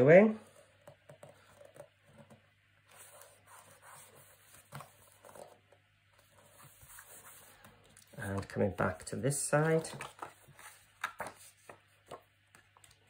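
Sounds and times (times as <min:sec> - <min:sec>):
card rustling: 0:00.4 - 0:13.0.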